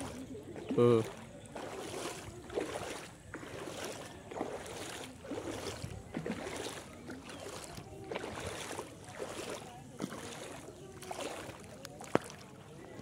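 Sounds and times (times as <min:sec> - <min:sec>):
footsteps wading through water: 0:00.0 - 0:13.0.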